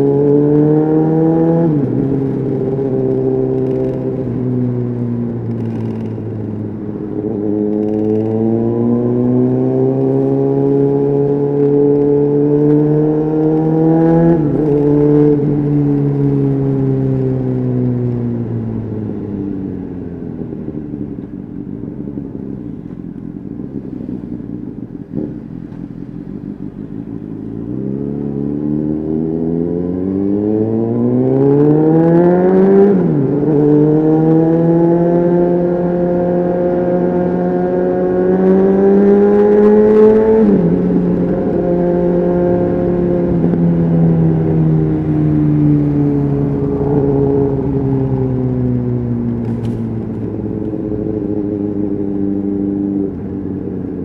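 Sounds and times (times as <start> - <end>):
motorcycle engine revving: 0.0 - 20.2, 22.2 - 54.0.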